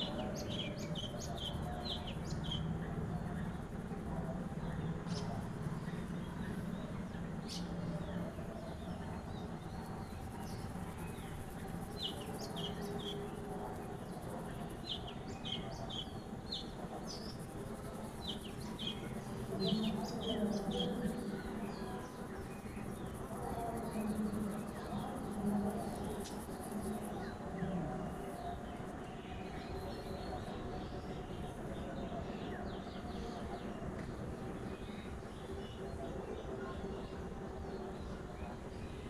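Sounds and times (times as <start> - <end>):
small birds chirping: 0.0 - 39.0
steady low hum: 0.0 - 39.0.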